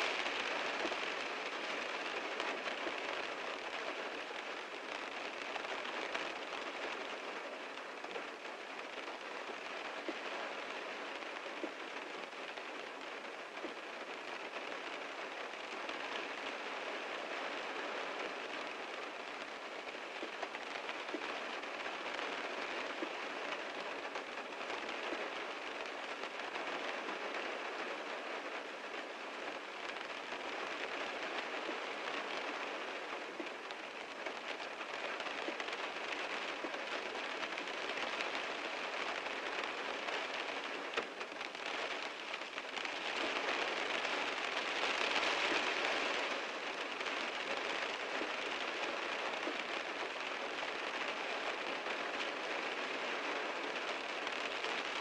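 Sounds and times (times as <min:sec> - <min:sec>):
heavy rain on a car: 0:00.0 - 0:55.0.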